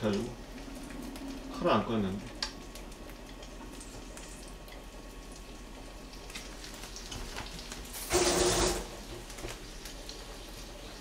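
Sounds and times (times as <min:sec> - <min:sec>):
anchovies crackling in a pot: 0:00.0 - 0:11.0
tap water running: 0:00.0 - 0:11.0.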